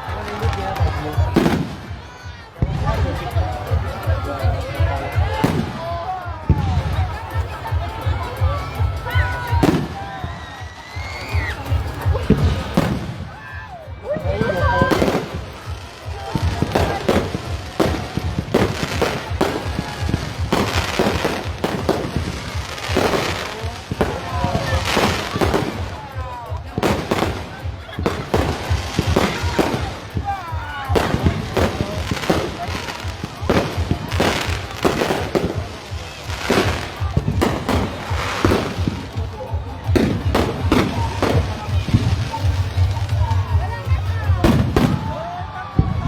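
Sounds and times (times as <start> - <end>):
fireworks bangs and crackling: 0.0 - 46.0
music playing: 0.0 - 46.0.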